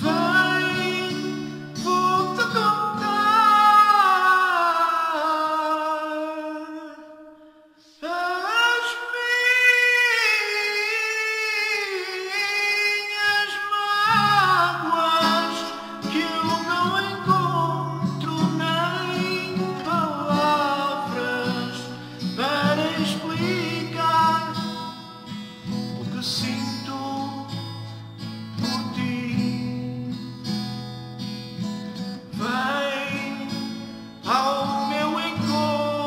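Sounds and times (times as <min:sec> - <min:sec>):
man singing: 0:00.0 - 0:30.4, 0:32.2 - 0:36.0
acoustic guitar: 0:00.0 - 0:36.0.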